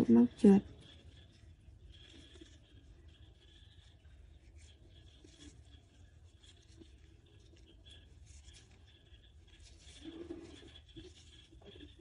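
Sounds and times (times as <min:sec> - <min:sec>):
crochet hook scratching yarn: 0:00.0 - 0:12.0
low background hum: 0:00.0 - 0:12.0.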